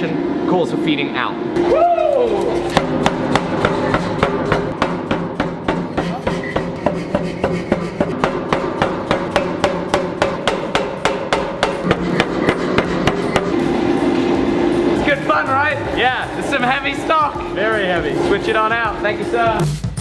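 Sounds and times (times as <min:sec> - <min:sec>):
steady hum: 0:00.0 - 0:19.7
power hammer pounding hot steel: 0:02.6 - 0:19.6.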